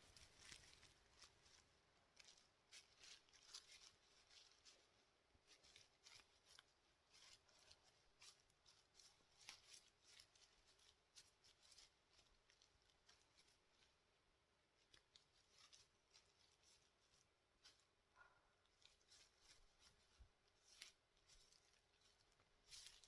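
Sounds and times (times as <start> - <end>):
faint crisp crackles: 0.0 - 23.0.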